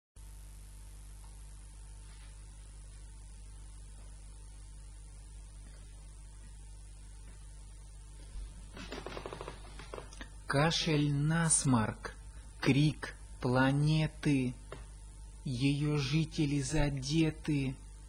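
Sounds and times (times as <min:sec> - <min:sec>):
electrical mains hum: 0:00.2 - 0:18.0.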